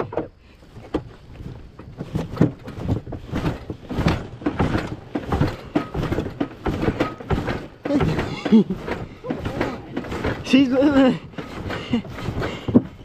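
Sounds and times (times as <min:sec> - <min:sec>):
boat hull scraping and knocking: 0:00.0 - 0:13.0.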